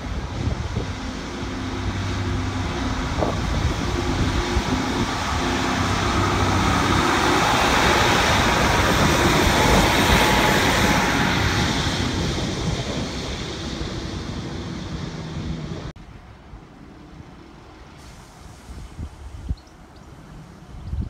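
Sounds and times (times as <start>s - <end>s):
diesel train passing: 0.0s - 20.8s.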